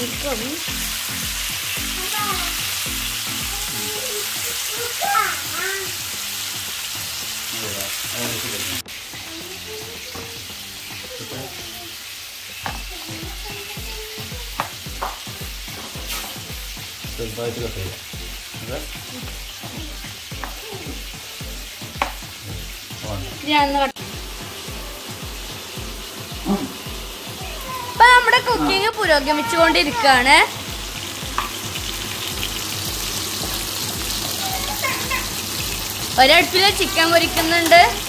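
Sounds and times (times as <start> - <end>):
background music with steady beat: 0.0 - 38.0
chicken sizzling in frying pan: 0.0 - 38.0.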